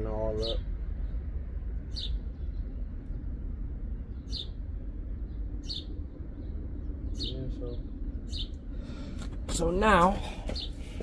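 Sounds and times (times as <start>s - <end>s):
steady low rumble: 0.0s - 11.0s
small bird chirping: 0.2s - 8.7s, 10.4s - 10.8s.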